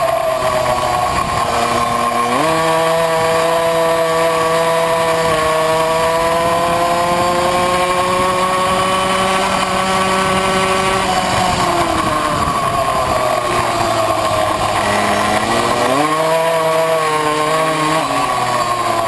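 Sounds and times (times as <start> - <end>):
two-stroke moped engine revving: 0.0 - 19.0.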